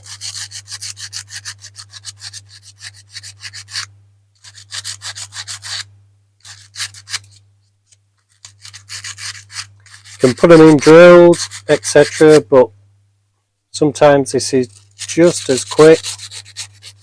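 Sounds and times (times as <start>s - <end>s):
sandpaper rubbing on metal: 0.0s - 7.4s, 8.3s - 12.5s, 14.4s - 17.0s.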